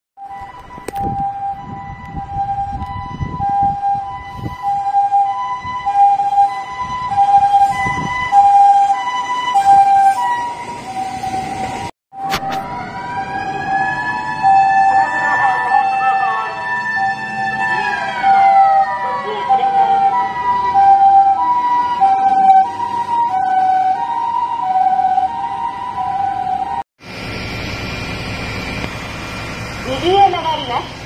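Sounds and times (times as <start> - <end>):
rising wailing siren: 0.2 - 31.0
road traffic rumbling: 0.2 - 31.0
two-tone ambulance siren: 0.2 - 31.0.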